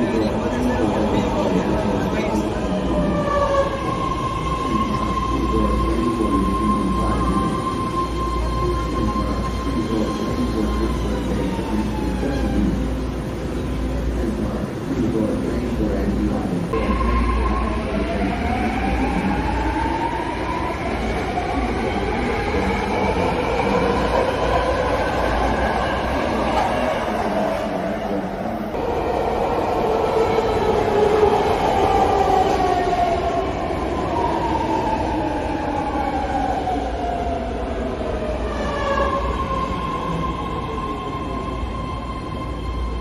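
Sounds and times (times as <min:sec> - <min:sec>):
subway train drive whining: 0:00.0 - 0:43.0.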